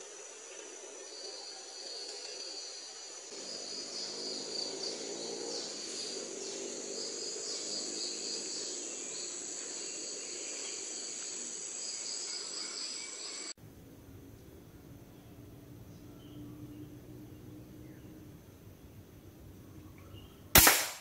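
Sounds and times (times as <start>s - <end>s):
insects droning: 0.0s - 21.0s
quiet outdoor background: 0.0s - 21.0s.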